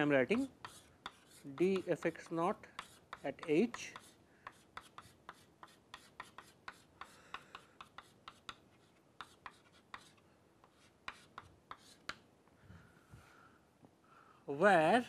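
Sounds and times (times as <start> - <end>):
chalk tapping and scraping: 0.0 - 12.3.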